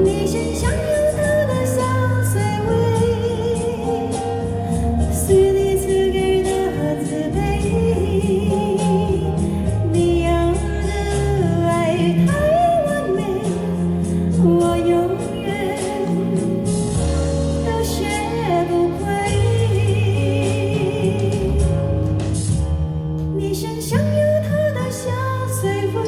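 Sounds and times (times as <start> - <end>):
backing track music: 0.0 - 26.0
woman singing pop ballad: 0.0 - 26.0.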